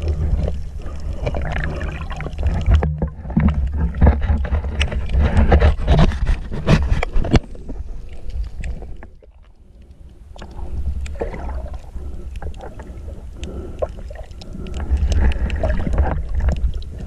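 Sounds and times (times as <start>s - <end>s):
underwater clicks and knocks: 0.0s - 9.5s, 12.4s - 17.0s
underwater low rumble: 0.0s - 17.0s.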